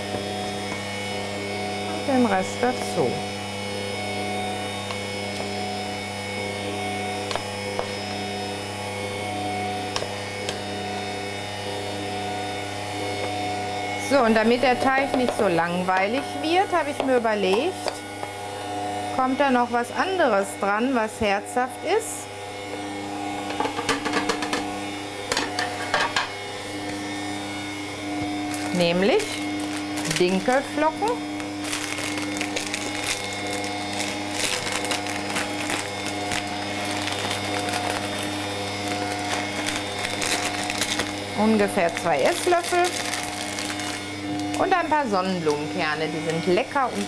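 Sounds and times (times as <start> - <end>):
stand mixer whisk beating batter: 0.0 - 27.2, 27.9 - 47.0.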